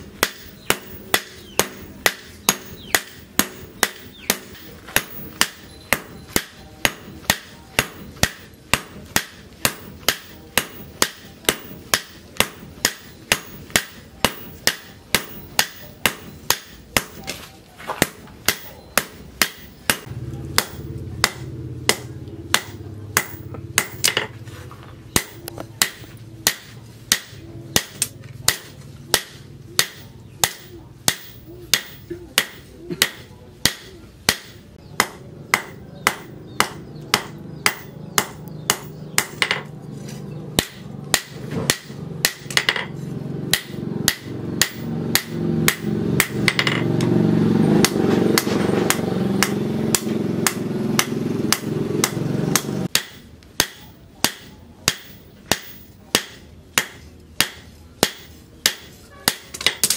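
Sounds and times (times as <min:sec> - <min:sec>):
hammer striking blade on anvil: 0:00.1 - 0:24.4, 0:25.1 - 0:39.7, 0:40.5 - 0:47.1, 0:47.8 - 0:59.9.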